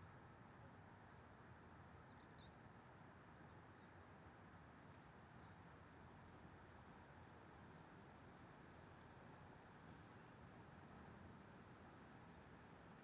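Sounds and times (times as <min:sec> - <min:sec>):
faint steady wind: 0:00.0 - 0:13.0.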